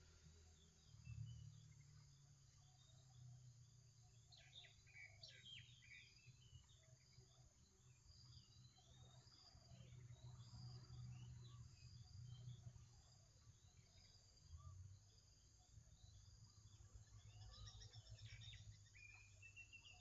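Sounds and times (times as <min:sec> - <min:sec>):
faint bird chirps: 0:00.0 - 0:20.0
faint insect chirping: 0:00.0 - 0:20.0.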